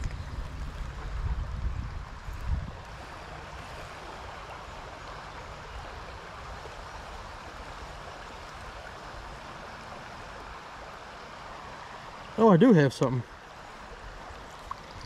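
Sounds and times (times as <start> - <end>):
creek running over rocks: 0.0 - 15.0.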